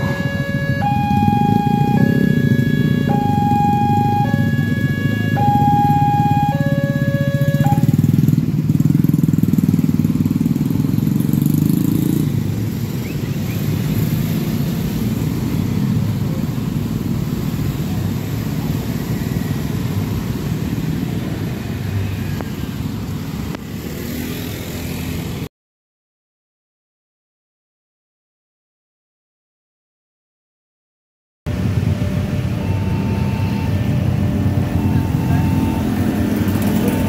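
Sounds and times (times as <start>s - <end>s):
motorbikes passing: 0.0s - 25.5s, 31.5s - 37.0s.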